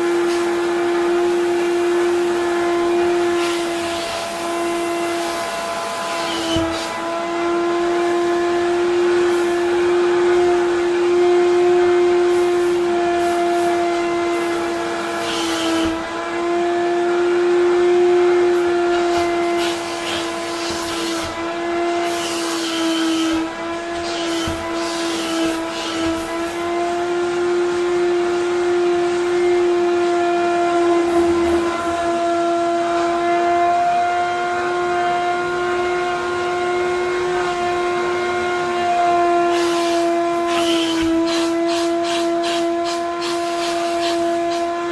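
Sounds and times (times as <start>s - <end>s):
wet vacuum cleaner motor whining: 0.0s - 44.9s.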